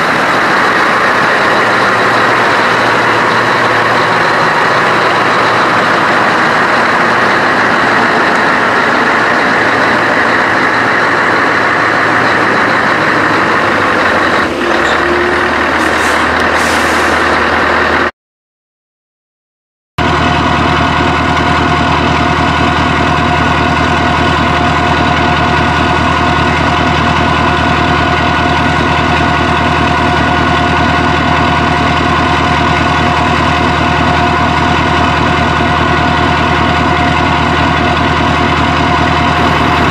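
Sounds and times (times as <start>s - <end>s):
truck engine running: 0.0s - 18.1s, 20.0s - 39.9s.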